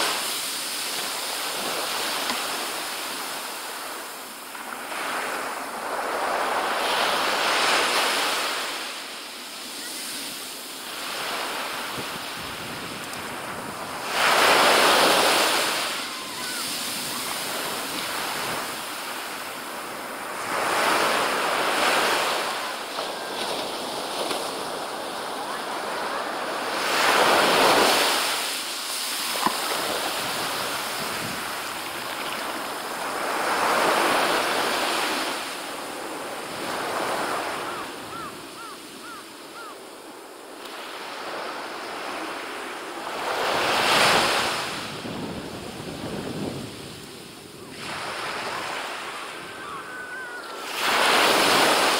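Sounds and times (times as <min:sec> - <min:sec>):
small waves washing up beach: 0:00.0 - 0:51.9.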